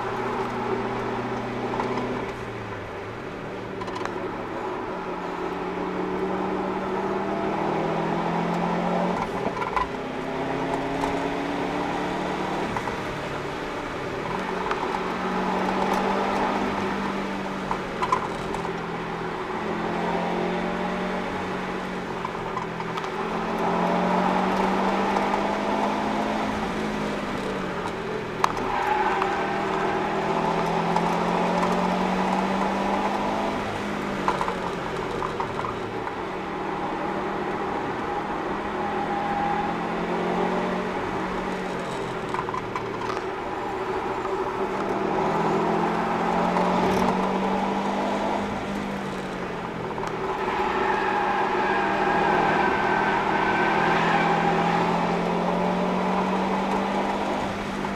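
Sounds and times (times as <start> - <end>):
car engine revving: 3.9 - 57.9.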